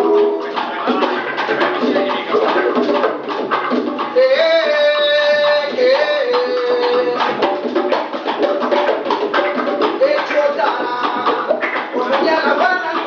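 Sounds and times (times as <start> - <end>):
hand drum percussion: 0.0 - 13.0
latin band playing: 0.0 - 13.0.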